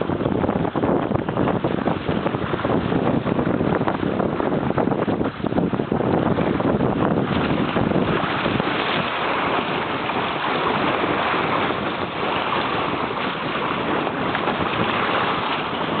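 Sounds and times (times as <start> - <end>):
sea water: 0.0 - 16.0
wind buffeting microphone: 0.0 - 16.0.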